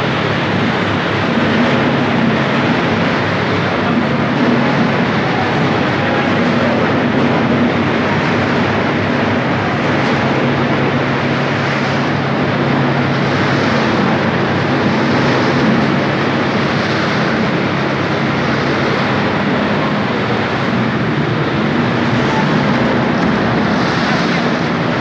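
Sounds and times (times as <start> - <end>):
loud steady machine noise: 0.0 - 25.0
low machine hum: 0.0 - 25.0.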